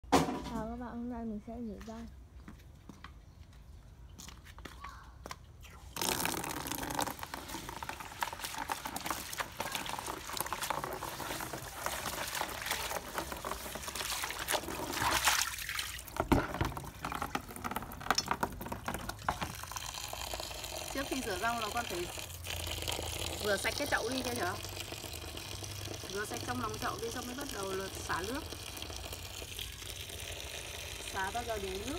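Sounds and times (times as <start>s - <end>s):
water splashing: 5.8s - 31.9s
tap water pouring into basin: 6.0s - 31.9s.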